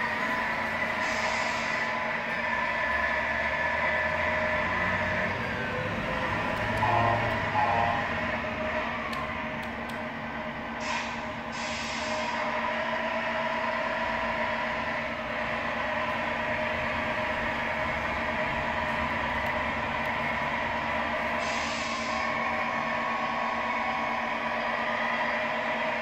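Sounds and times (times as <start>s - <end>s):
simulated truck engine from speaker: 0.0s - 26.0s.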